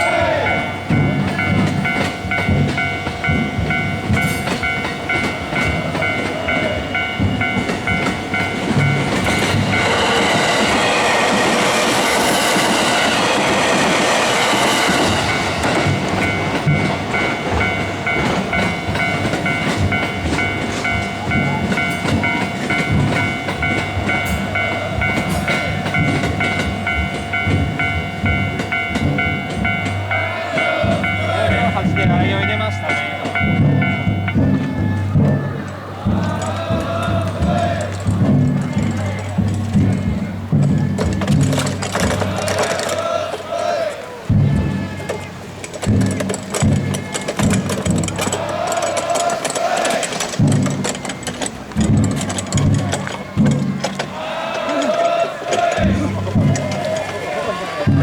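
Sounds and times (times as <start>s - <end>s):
level crossing warning bell: 0.0s - 58.0s
train passing: 0.0s - 58.0s.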